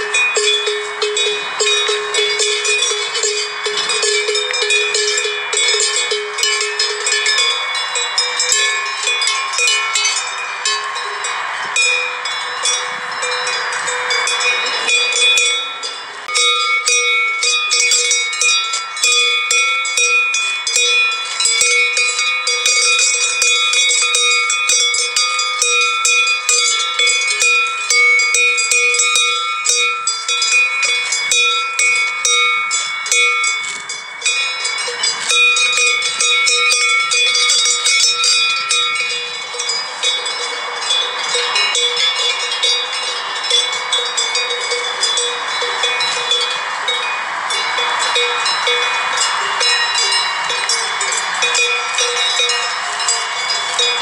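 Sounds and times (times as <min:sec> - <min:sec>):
sheep bells clanking: 0:00.0 - 0:54.0.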